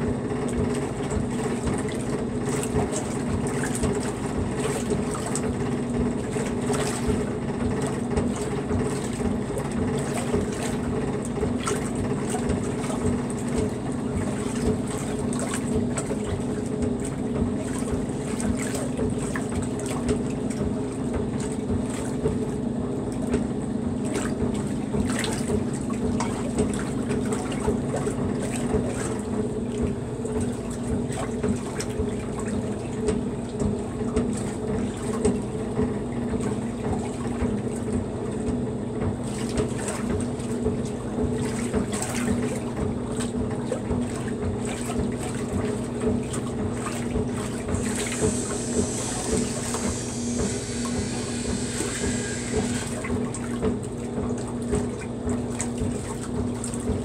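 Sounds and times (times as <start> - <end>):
washer motor humming: 0.0 - 57.0
water sloshing in tub: 0.0 - 57.0.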